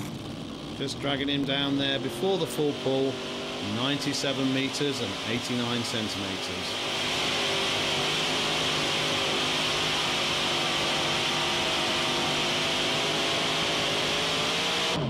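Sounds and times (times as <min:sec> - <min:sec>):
tractor engines at high revs: 0:00.0 - 0:15.0.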